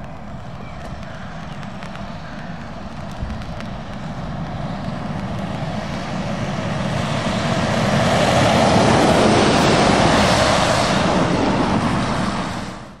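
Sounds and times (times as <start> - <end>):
tyres hissing on wet road: 0.0 - 12.9
diesel engine rumble: 0.0 - 13.0.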